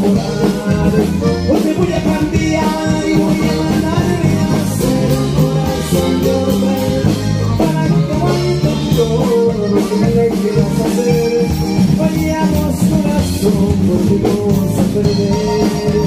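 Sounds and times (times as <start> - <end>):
accordion: 0.0 - 16.0
drums: 0.0 - 16.0
electric bass: 0.0 - 16.0
guitar: 0.0 - 16.0.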